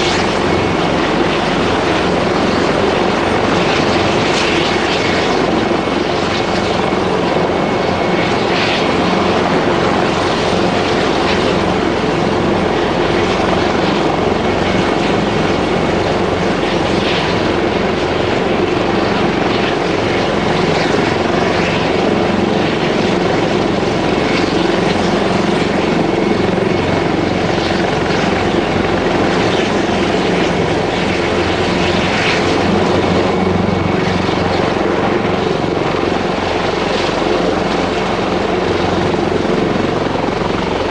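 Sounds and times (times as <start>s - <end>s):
helicopter engines and rotor: 0.0s - 40.9s.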